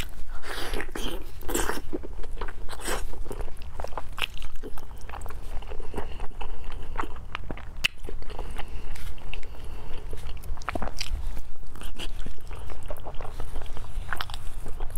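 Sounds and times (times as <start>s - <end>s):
person chewing with wet smacks: 0.0s - 14.9s.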